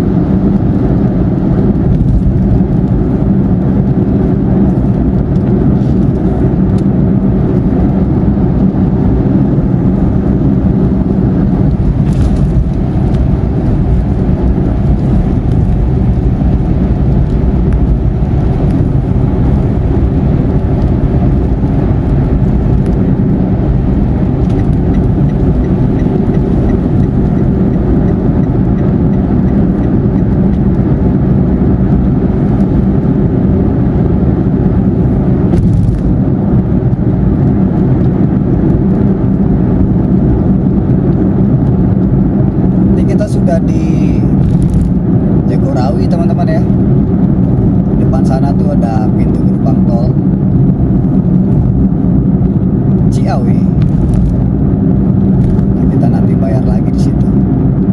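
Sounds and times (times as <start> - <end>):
in-car road noise: 0.0 - 57.9.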